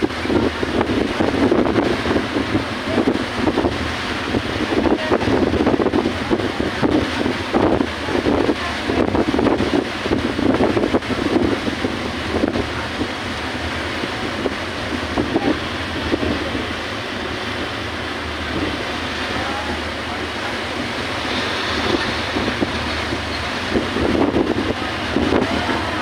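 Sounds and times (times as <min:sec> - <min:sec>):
boat wake churning: 0:00.0 - 0:26.0
low engine drone: 0:00.0 - 0:26.0
wind buffeting microphone: 0:00.0 - 0:26.0.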